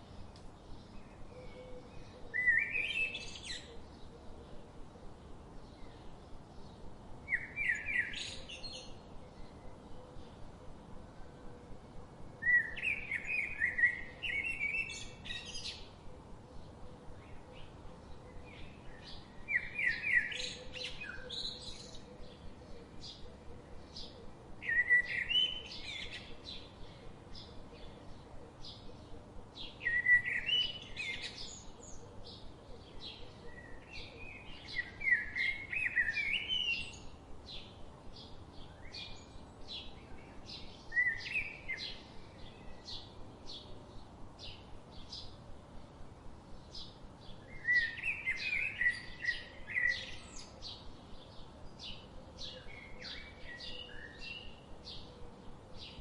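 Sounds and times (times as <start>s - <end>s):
bird warbling song: 0.0s - 4.7s, 5.6s - 10.5s, 12.4s - 45.4s, 46.5s - 56.0s.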